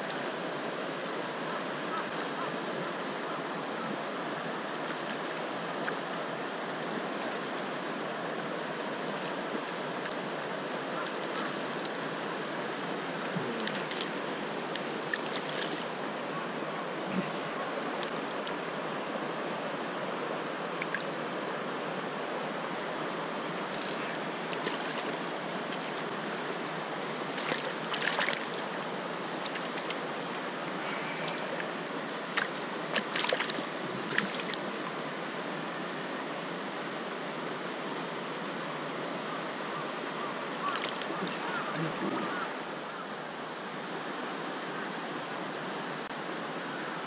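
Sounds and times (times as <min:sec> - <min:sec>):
stream rushing over rocks: 0:00.0 - 0:47.0.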